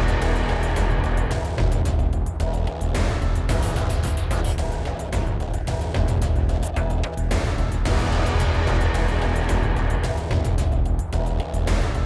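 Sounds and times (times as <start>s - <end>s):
bass-heavy music with fast beat: 0.0s - 12.0s.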